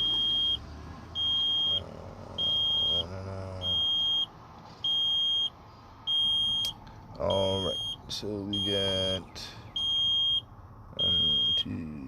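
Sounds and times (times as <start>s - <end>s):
warning buzzer beeping: 0.0s - 0.6s, 1.2s - 6.7s, 7.3s - 10.4s, 11.0s - 11.8s.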